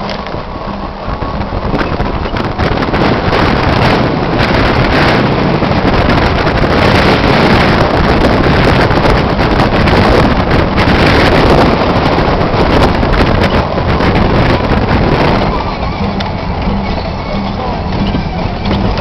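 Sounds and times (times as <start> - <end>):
vehicle rumble: 0.0 - 19.0
wind buffeting microphone: 0.0 - 19.0.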